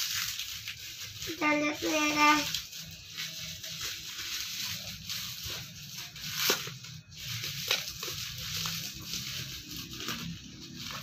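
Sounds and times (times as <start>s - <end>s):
bubble wrap crackles: 0.0s - 11.0s
bubble wrap crinkling: 0.0s - 11.0s.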